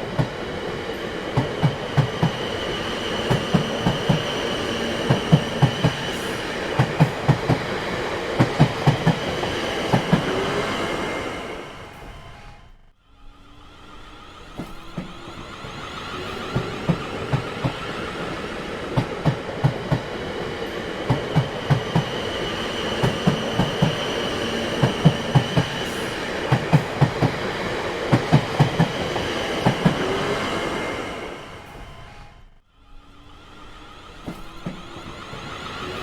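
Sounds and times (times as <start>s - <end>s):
train wheels clattering: 0.0s - 12.4s, 14.5s - 32.0s
train rumble: 0.0s - 36.0s.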